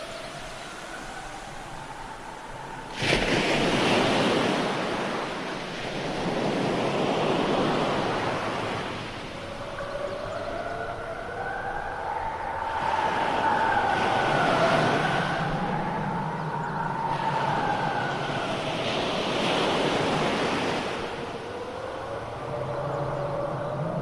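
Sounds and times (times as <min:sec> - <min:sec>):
howling wind: 0:00.0 - 0:24.0.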